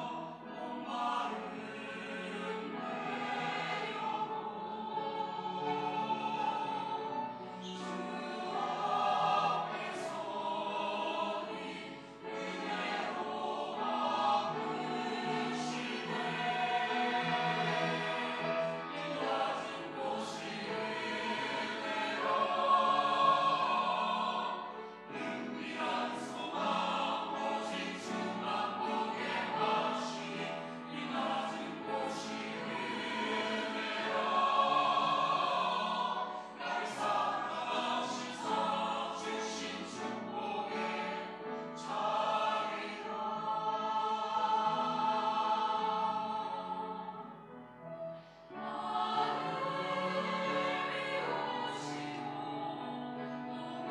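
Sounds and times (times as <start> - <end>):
mixed choir singing: 0.0 - 53.9.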